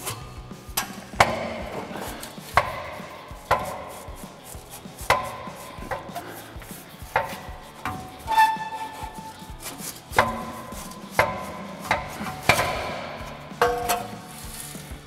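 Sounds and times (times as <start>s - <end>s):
metal exhaust pipe knocking: 0.0s - 15.0s.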